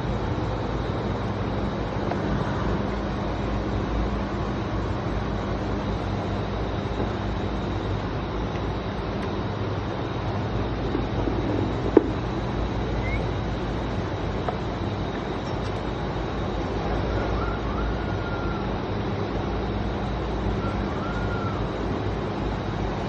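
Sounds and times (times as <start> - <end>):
faint high whine: 0.0 - 23.0
mechanical hum: 0.0 - 23.0.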